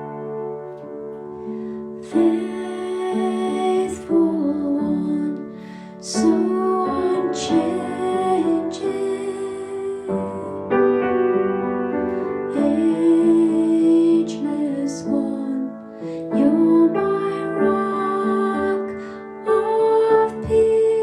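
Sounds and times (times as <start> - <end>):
piano accompaniment: 0.0 - 21.0
person singing: 2.0 - 10.8, 12.5 - 21.0.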